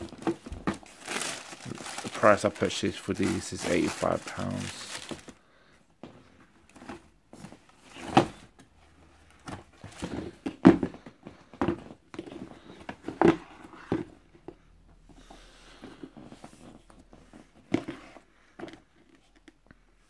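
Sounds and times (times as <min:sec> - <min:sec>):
soft handling noise: 0:00.0 - 0:05.4, 0:06.0 - 0:20.0.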